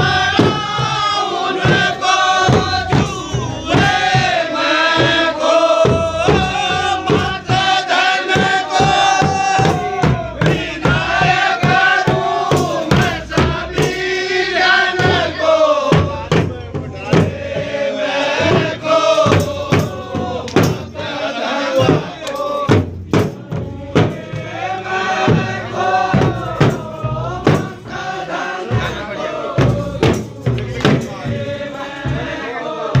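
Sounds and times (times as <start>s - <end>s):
drum beating: 0.0s - 33.0s
men singing together: 0.0s - 33.0s.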